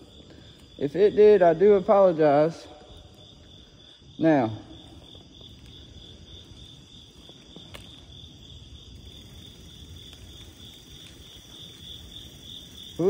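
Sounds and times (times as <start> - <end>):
bicycle tyres rolling on concrete: 0.0 - 13.0
crickets chirping: 0.0 - 13.0.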